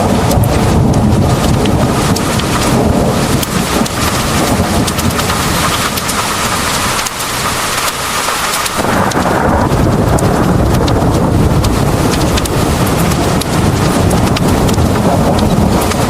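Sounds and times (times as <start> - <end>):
heavy rain pouring: 0.0 - 16.0
low rumbling thunder: 0.0 - 16.0
raindrops tapping close by: 0.0 - 16.0.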